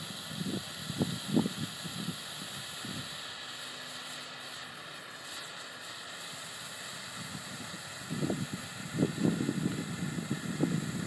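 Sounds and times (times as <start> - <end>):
firework torch hissing: 0.0 - 11.0.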